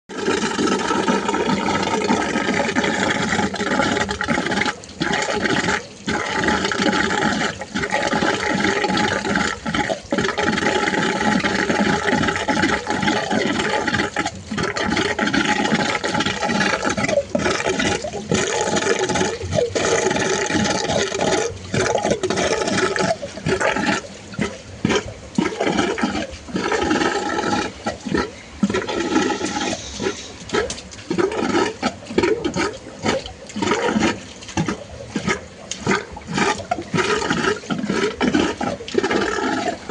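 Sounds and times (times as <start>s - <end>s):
water rushing in pipes: 0.1s - 39.9s.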